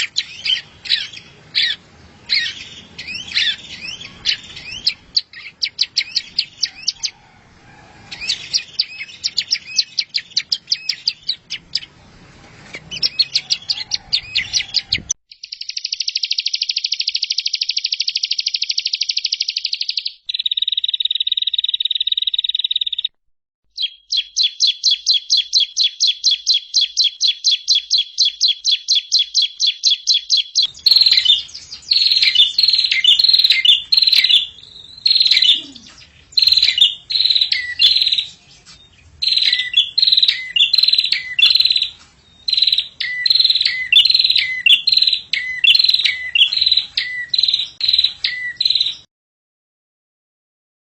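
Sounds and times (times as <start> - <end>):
fast repeated sharp bird notes: 0.0 - 7.2, 8.2 - 12.0, 12.9 - 23.2, 23.8 - 38.4, 39.0 - 49.1
songbird chirping song: 0.0 - 23.1, 23.7 - 49.1.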